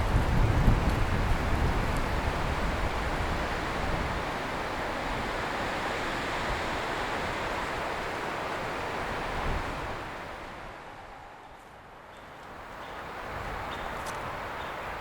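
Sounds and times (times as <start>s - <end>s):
strong wind rushing through trees: 0.0s - 15.0s.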